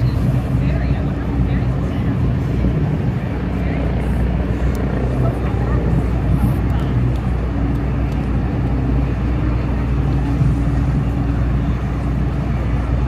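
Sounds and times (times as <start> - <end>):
low rumble of engines: 0.0 - 13.0
steady droning tone: 0.0 - 13.0.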